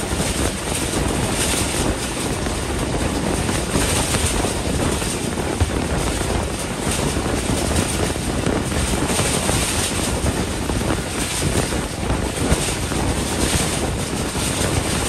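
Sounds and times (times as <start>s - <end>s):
train wheel and rail noise: 0.0s - 15.0s.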